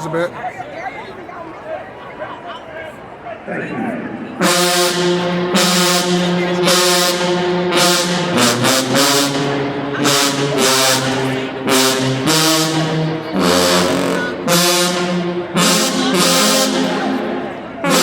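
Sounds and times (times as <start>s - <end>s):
brass band fanfare: 3.5s - 18.0s.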